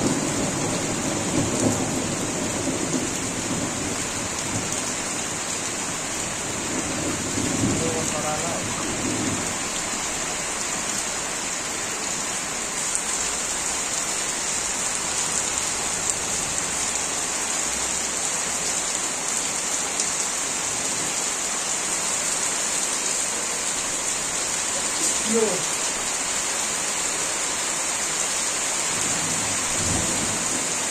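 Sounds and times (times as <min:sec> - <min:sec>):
heavy rain on foliage: 0:00.0 - 0:30.9.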